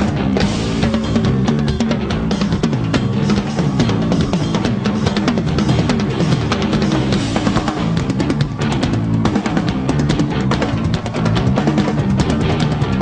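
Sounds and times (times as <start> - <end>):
rock music with drums and bass: 0.0 - 13.0.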